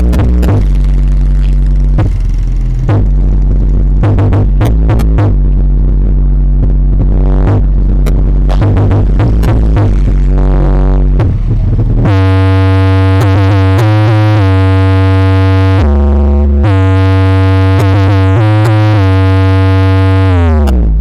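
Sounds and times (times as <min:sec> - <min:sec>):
loud synthesizer music over deep bass: 0:00.0 - 0:21.0.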